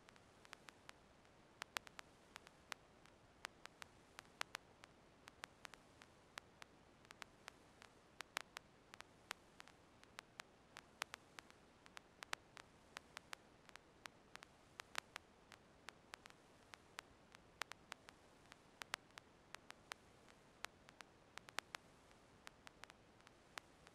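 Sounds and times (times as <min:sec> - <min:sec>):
faint hiss: 0:00.0 - 0:23.9.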